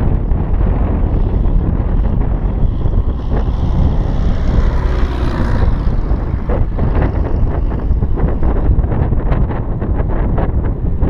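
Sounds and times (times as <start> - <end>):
propeller plane passing overhead: 0.0 - 11.0
wind buffeting microphone: 0.0 - 11.0.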